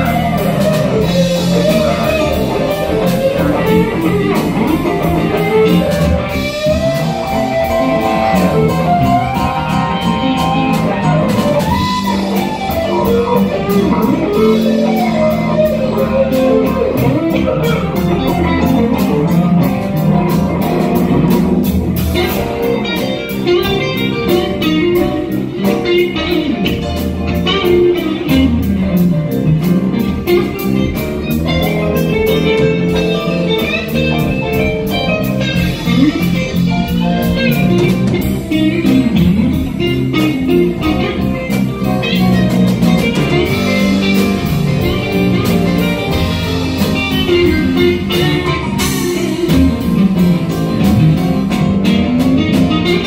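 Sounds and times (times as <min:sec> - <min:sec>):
bass guitar: 0:00.0 - 0:53.0
drums: 0:00.0 - 0:53.0
electric guitar lead: 0:00.0 - 0:53.0.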